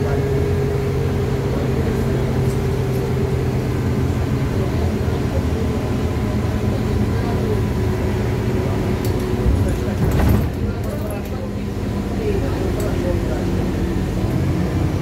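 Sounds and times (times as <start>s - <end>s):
bus diesel engine drone: 0.0s - 15.0s
road noise: 0.0s - 15.0s.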